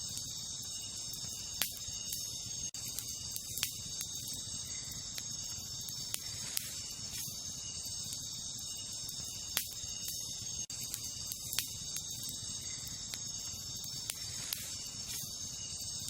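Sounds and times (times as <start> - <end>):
campfire crackling: 0.0 - 16.0
night insects chorus: 0.0 - 16.0.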